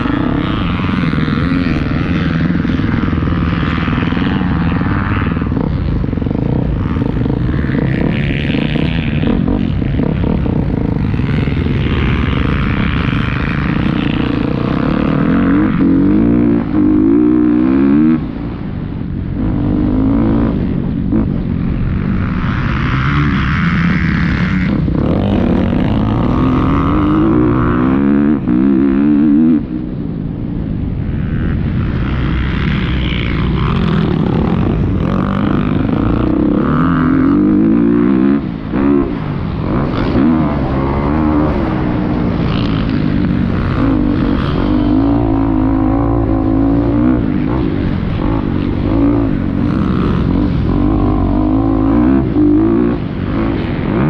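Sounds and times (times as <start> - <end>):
motocross bike engine revving: 0.0 - 30.2, 31.0 - 54.0.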